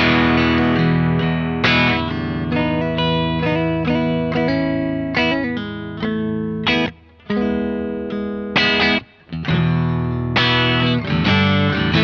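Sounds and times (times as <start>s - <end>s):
overdriven electric guitar chords: 0.0s - 12.0s.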